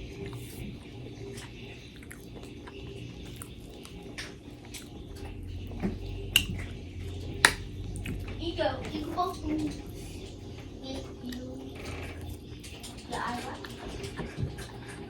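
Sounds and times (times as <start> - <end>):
chewing with wet mouth noises: 0.0 - 15.0.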